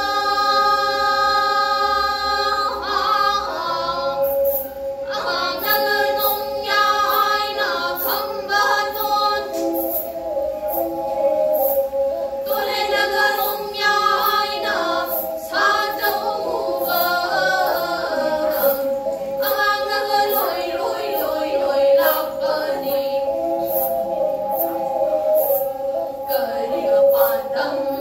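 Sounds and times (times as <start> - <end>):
bowed fiddles playing: 0.0 - 28.0
women singing in unison: 0.0 - 28.0.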